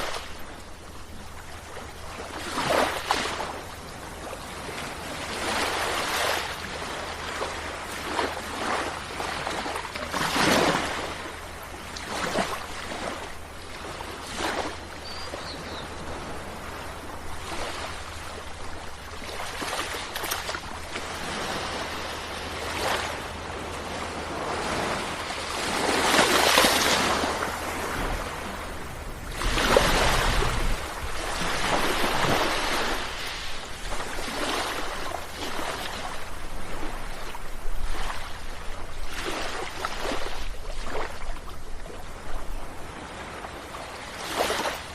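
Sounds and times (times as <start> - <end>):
sea waves breaking: 0.0 - 44.9.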